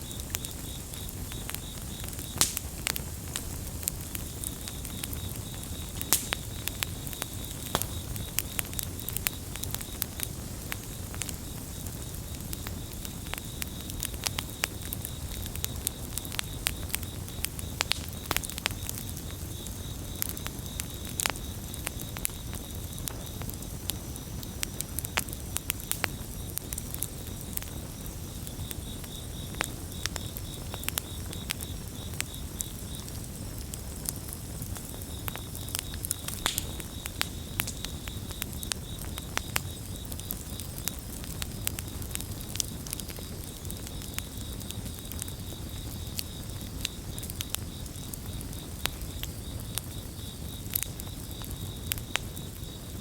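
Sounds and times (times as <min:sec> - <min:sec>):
campfire crackling: 0:00.0 - 0:53.0
crickets chirping: 0:00.0 - 0:53.0.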